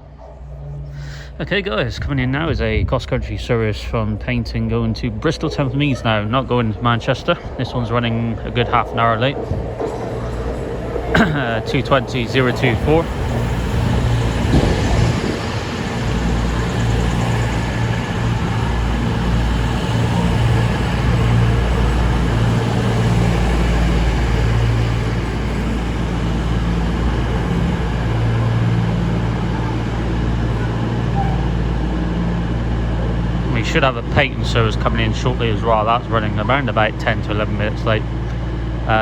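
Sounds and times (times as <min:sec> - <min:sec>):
diesel train engines throbbing: 0:00.0 - 0:39.0.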